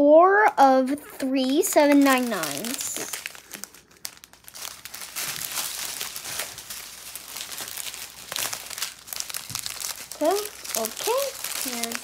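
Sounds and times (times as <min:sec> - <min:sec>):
plastic packaging crinkling: 0:01.2 - 0:12.0.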